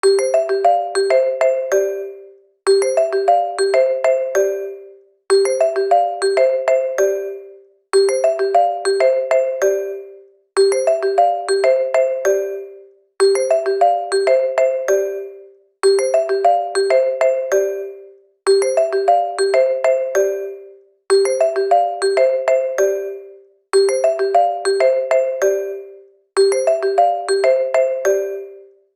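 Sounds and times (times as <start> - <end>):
marimba phone ringtone: 0.0 - 28.8.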